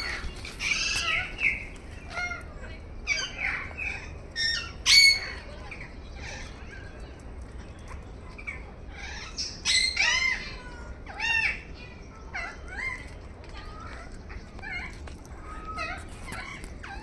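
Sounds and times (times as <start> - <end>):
birds squawking and chirping: 0.0 - 17.0.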